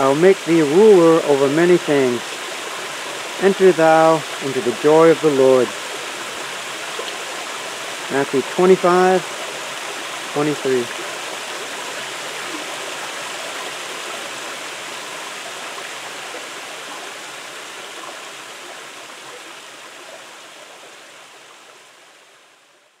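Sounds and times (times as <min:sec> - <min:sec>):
stream rushing over small falls: 0:00.0 - 0:23.0.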